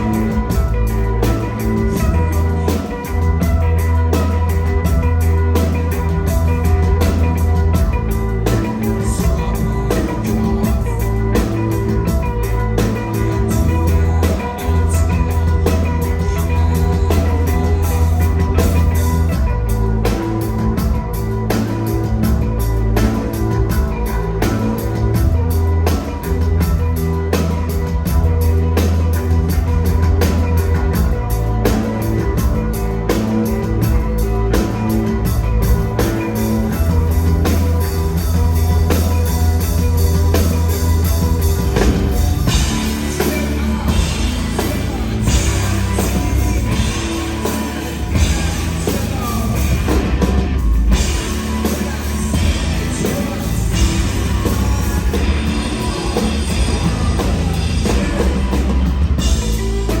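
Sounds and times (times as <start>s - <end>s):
live rock band playing: 0.0s - 60.0s
person singing: 0.0s - 60.0s.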